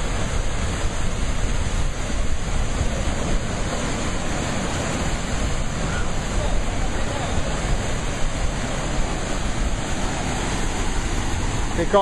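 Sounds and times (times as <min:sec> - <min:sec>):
ocean surf breaking over rocks: 0:00.0 - 0:12.0.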